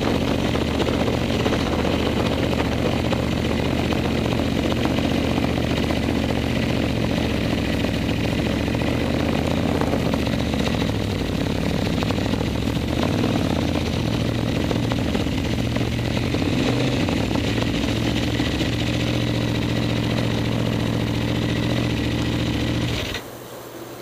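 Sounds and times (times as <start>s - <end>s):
motorcycle engines idling: 0.0s - 23.2s.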